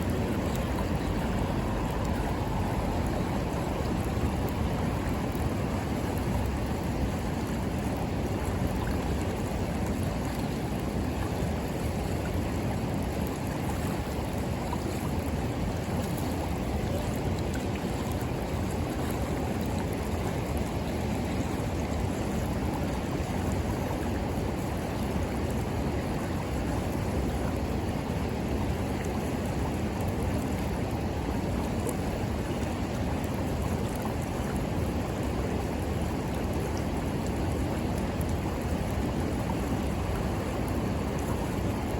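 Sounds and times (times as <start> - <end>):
river water flowing: 0.0 - 41.9.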